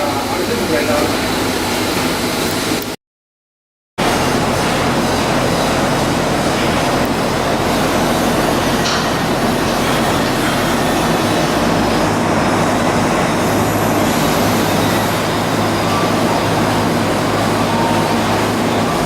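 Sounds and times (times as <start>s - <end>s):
industrial machinery noise: 0.0s - 3.0s, 4.0s - 19.0s.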